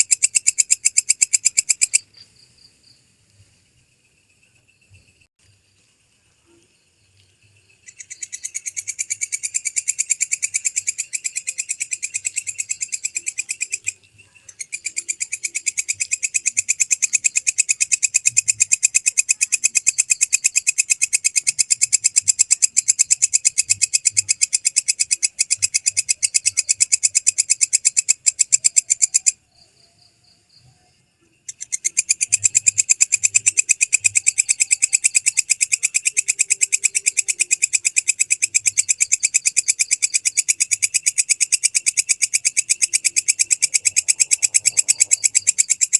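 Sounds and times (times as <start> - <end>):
katydid calling: 0.0 - 2.1, 7.8 - 30.7, 31.4 - 45.9.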